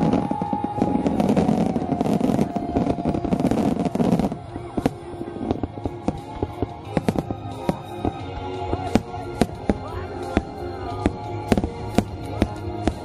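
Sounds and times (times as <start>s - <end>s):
fireworks booming and crackling: 0.0s - 13.0s.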